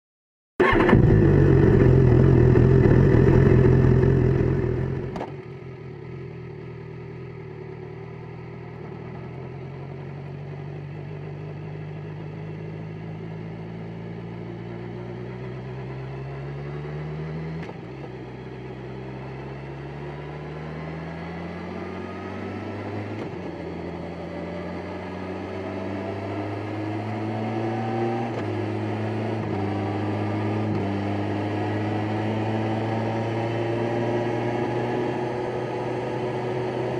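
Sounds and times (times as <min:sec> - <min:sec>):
motorcycle engine revving: 0:00.6 - 0:09.9, 0:11.0 - 0:36.9.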